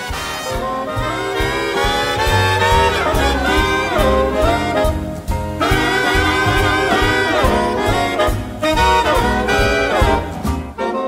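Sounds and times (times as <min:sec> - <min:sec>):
big band swing music: 0:00.0 - 0:11.0.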